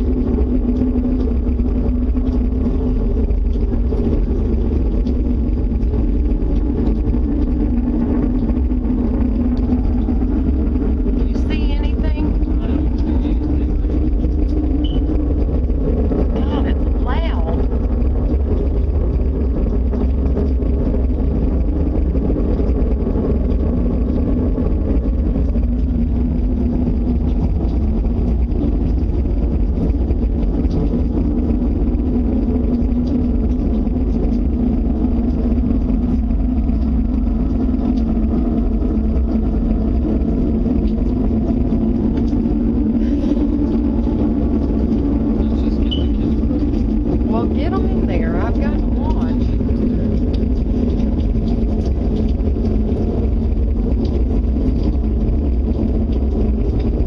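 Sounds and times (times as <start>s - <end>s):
loud outdoor rumble: 0.0s - 57.0s
low drone: 0.0s - 57.0s.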